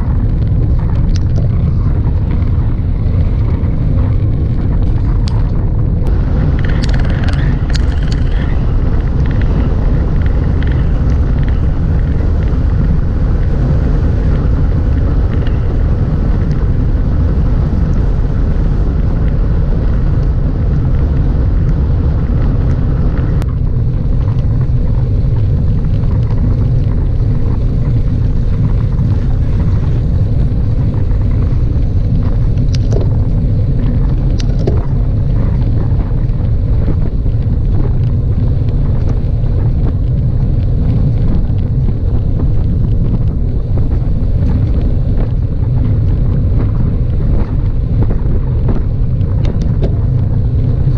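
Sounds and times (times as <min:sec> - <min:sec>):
tyre noise on asphalt: 0:00.0 - 0:50.9
wind buffeting microphone: 0:00.0 - 0:50.9.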